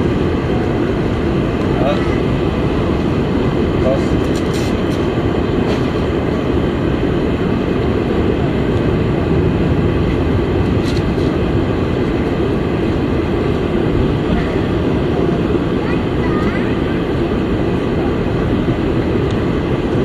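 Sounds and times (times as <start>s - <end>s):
jet engines rumbling in cabin: 0.0s - 20.0s.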